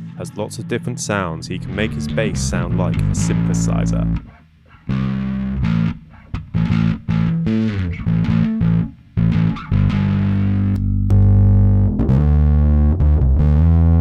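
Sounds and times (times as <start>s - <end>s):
electric bass through effects: 0.0s - 14.0s.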